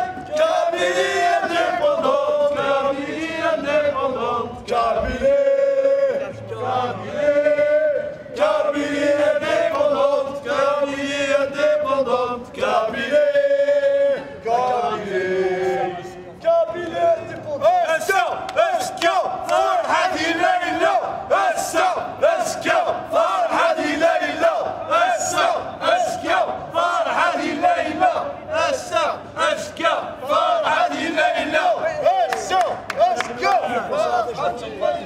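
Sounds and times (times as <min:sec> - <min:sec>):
crowd chanting in unison: 0:00.0 - 0:32.8.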